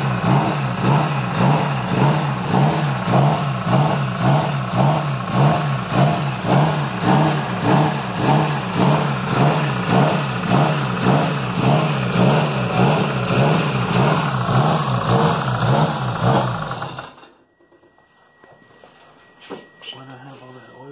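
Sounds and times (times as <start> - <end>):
car engine running with lope: 0.0 - 17.2.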